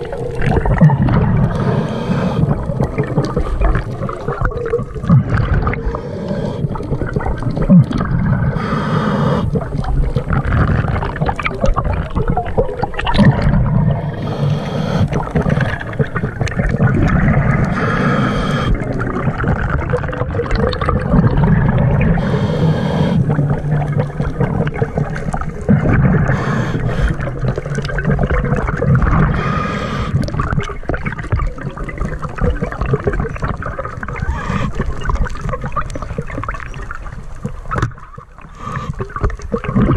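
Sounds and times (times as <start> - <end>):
low underwater gurgling: 0.0 - 39.9
regulator bubbles and hiss: 0.0 - 39.9.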